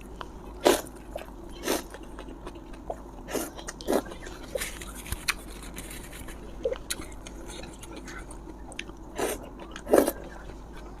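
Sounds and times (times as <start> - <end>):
chewing: 0.1 - 11.0.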